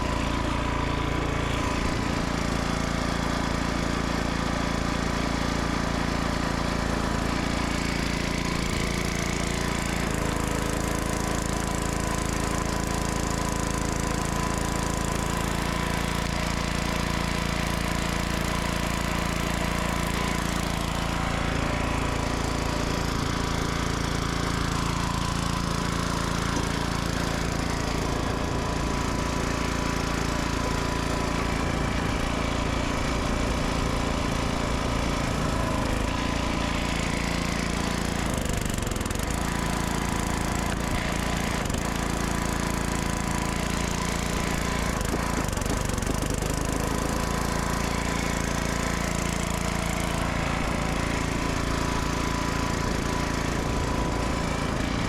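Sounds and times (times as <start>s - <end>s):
chainsaw engine running: 0.0s - 55.0s.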